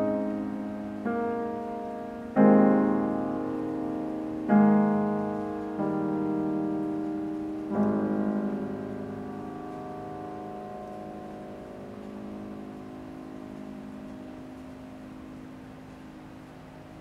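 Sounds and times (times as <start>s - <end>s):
piano chord ringing: 0.0s - 17.0s.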